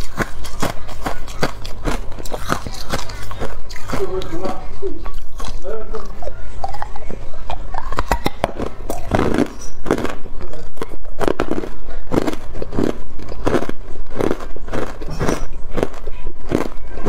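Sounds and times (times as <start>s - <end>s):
ice crunching in mouth: 0.0s - 17.0s.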